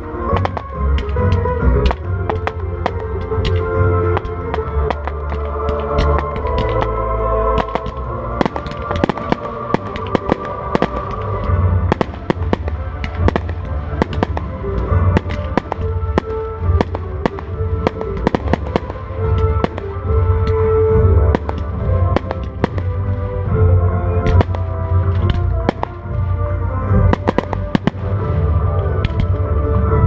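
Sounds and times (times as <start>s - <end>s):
fireworks bangs and crackling: 0.0s - 29.9s
music with steady bass: 0.0s - 30.0s.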